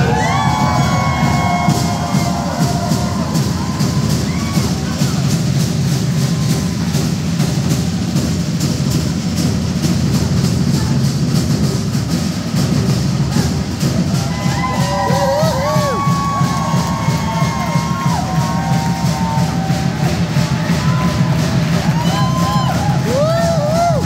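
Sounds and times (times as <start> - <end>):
fast steady drumming: 0.0 - 24.0.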